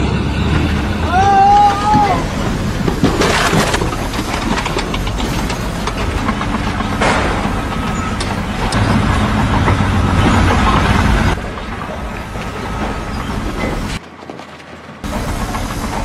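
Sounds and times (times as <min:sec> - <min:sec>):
heavy machinery engine running: 0:00.0 - 0:16.0
clanks and knocks: 0:01.9 - 0:16.0.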